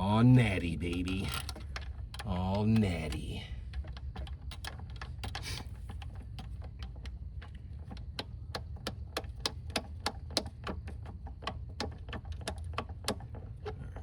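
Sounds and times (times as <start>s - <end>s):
light regular clicking: 0.6s - 13.4s.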